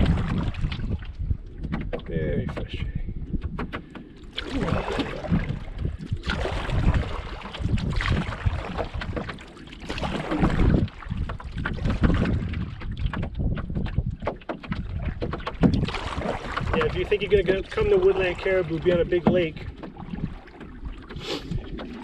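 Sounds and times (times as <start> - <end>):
gusting wind on microphone: 0.0 - 22.0
water splashing around canoe: 0.0 - 22.0.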